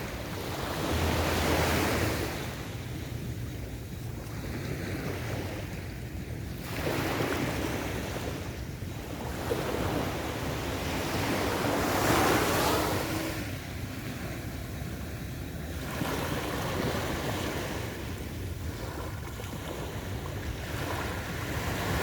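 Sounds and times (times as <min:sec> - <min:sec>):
sea waves breaking on beach: 0:00.0 - 0:22.0.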